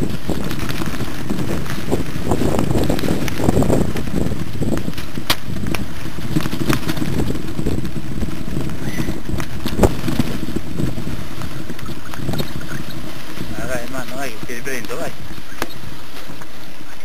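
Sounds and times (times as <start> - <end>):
bike knocks and rattles: 0.0 - 16.6
bike rolling over rough ground: 0.0 - 17.0
wind noise on microphone: 0.0 - 17.0.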